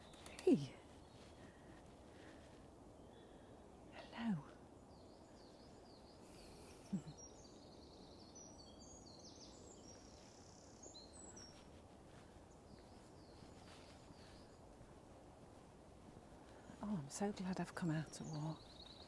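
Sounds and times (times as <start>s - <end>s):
low outdoor background noise: 0.0s - 19.0s.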